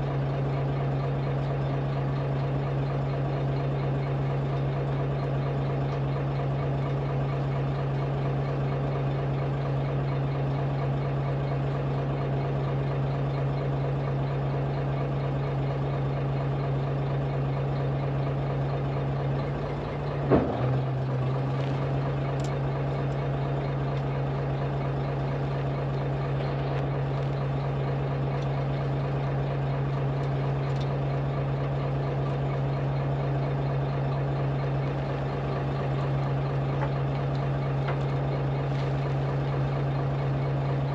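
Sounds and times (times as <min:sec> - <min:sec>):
boat engine idling: 0:00.0 - 0:40.9.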